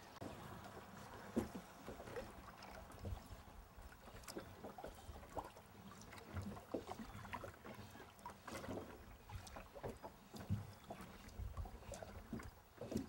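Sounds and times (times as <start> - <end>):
oars splashing and knocking: 0.0 - 13.0
water lapping: 0.0 - 13.0.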